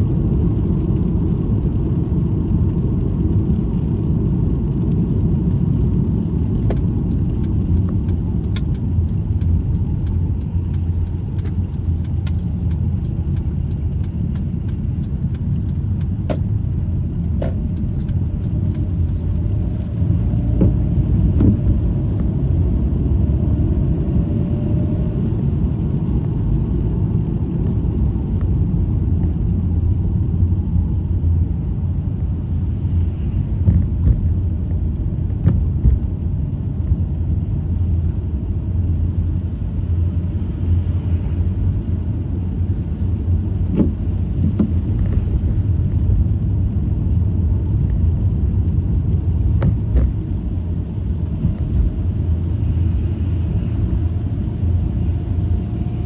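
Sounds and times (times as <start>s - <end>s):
road rumble inside moving car: 0.0s - 56.0s.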